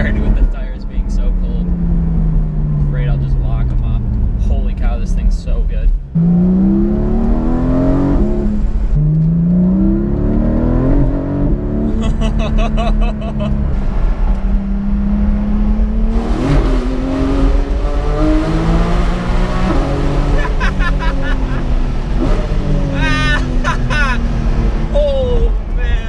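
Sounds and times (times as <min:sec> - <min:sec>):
car engine accelerating through gears: 0:00.0 - 0:25.3.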